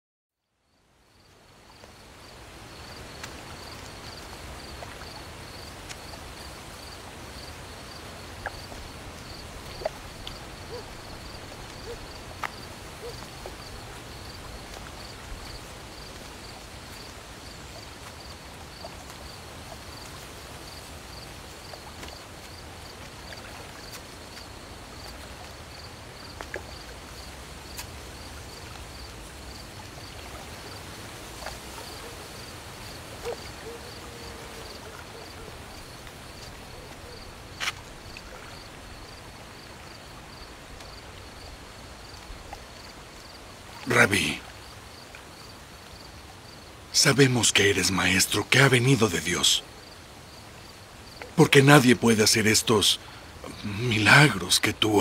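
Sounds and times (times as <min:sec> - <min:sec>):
crickets chirping: 0:00.4 - 0:55.0
low background hiss: 0:00.6 - 0:55.0.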